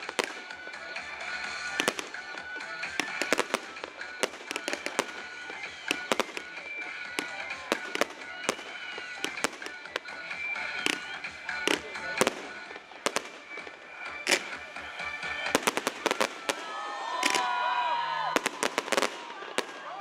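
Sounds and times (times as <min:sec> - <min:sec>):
fireworks bursting with sharp bangs: 0:00.0 - 0:20.0
fireworks crackling: 0:00.0 - 0:20.0.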